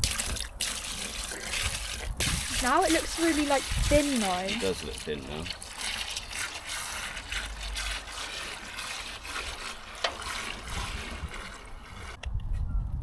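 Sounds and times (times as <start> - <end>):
liquid trickling and splashing: 0.0 - 12.2.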